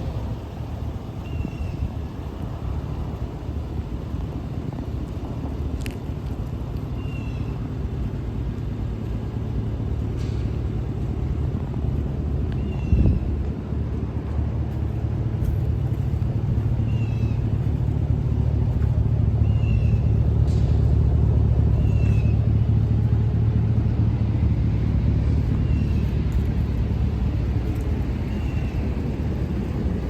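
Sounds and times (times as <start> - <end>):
pickup engine idling: 0.0 - 30.0.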